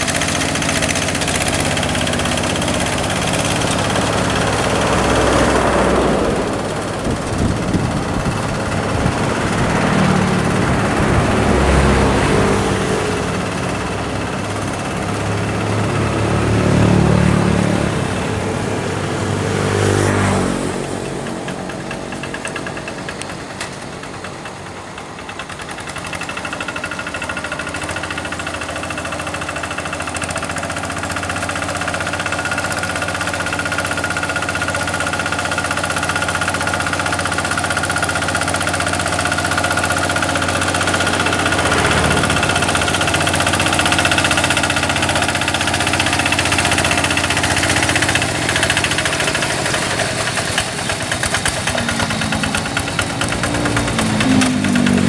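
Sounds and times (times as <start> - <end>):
diesel engine knocking: 0.0 - 55.0.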